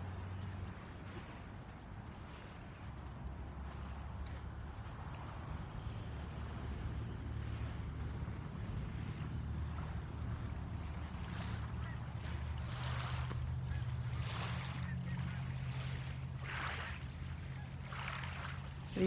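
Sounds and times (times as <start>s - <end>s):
small waves washing onto shore: 0.0s - 19.0s.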